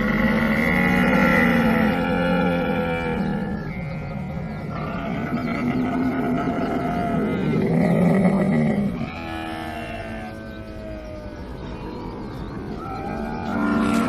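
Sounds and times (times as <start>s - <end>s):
camel calling: 0.0s - 11.9s, 12.7s - 14.0s.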